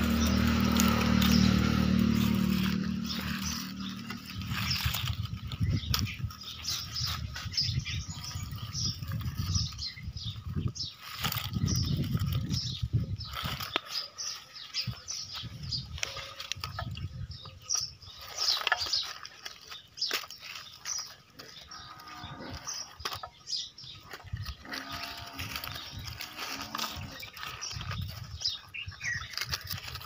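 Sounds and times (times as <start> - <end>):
small birds chirping: 0.0 - 30.0
toy bucket scraping dry soil: 0.0 - 30.0.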